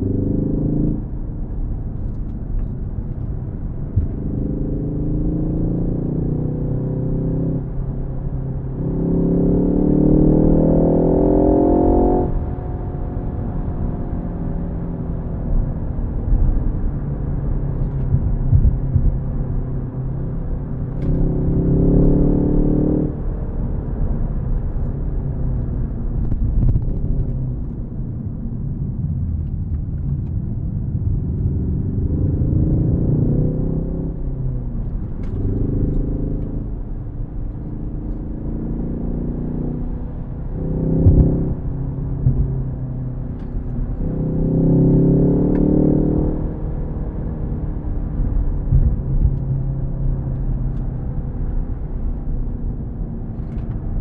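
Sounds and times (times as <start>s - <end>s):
car engine revving: 0.0s - 13.7s, 20.4s - 28.0s, 29.0s - 54.0s
road noise rumble: 0.0s - 54.0s.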